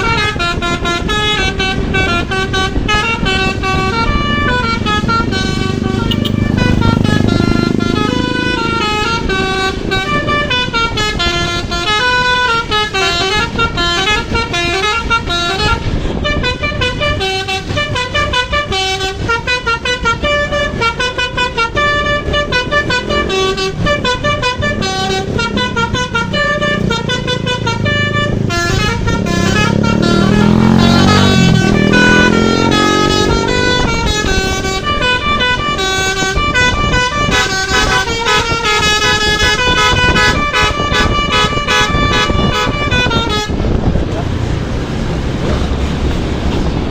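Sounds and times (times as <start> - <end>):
musical bus air horn: 0.0 - 44.1
engine and road rumble: 0.0 - 46.9.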